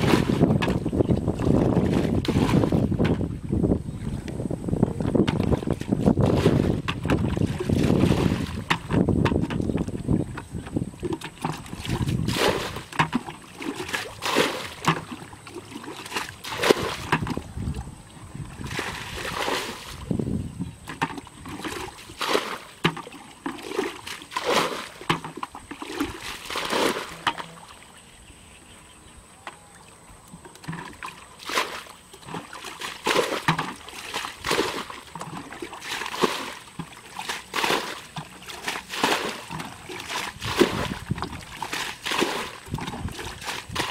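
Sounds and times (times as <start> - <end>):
bucket scooping water splashes: 0.0 - 27.9, 30.3 - 43.9
poured water sloshing: 0.0 - 27.9, 29.7 - 43.9.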